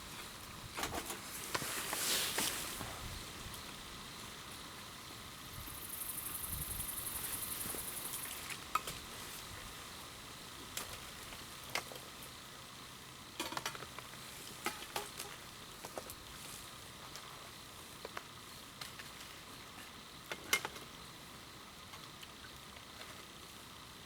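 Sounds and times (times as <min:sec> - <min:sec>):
campfire sizzling hiss: 0:00.0 - 0:24.0.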